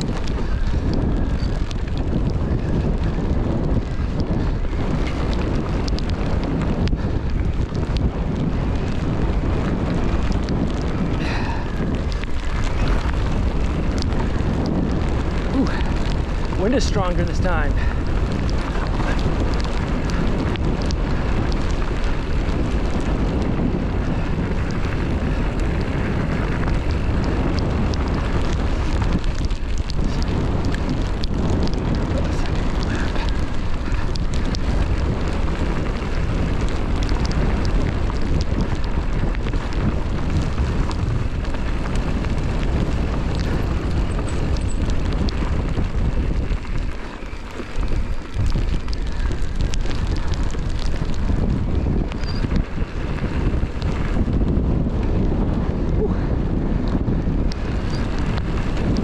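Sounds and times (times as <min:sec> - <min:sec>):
bike clicks and rattles: 0:00.0 - 0:59.0
wind buffeting microphone: 0:00.0 - 0:59.0.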